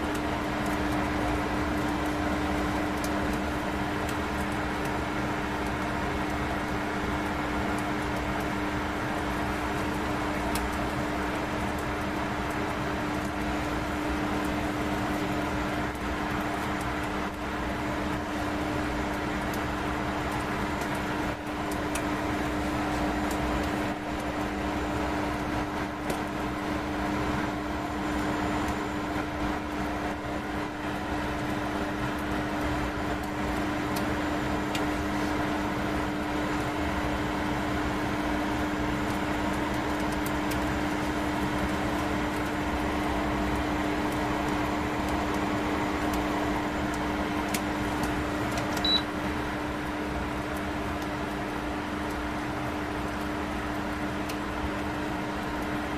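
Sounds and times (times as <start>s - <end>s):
microwave fan whirring: 0.0s - 55.9s
microwave oven humming: 0.0s - 55.9s.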